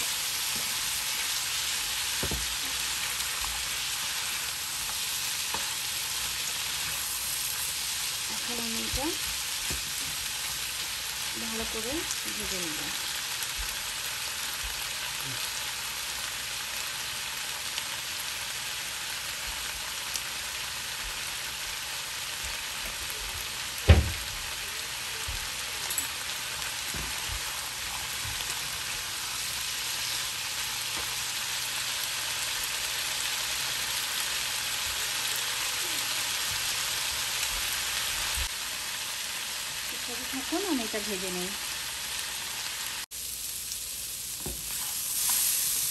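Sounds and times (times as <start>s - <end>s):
vegetables sizzling in a pan: 0.0s - 45.9s.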